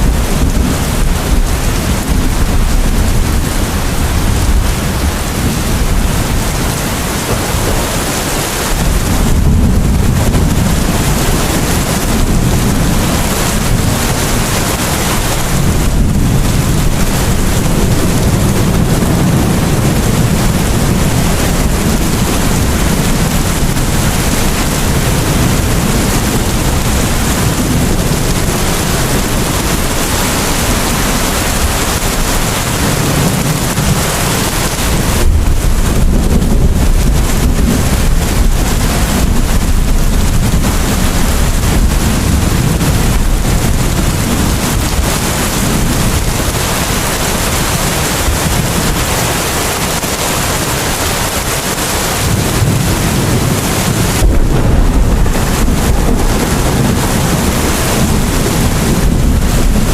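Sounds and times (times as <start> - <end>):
heavy rain: 0.0 - 59.9
low thunder rumble: 0.0 - 59.9.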